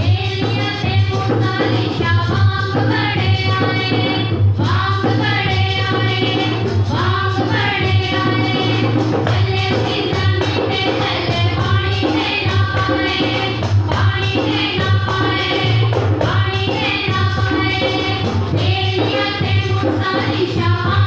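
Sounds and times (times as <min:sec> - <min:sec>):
voices singing held notes: 0:00.0 - 0:21.0.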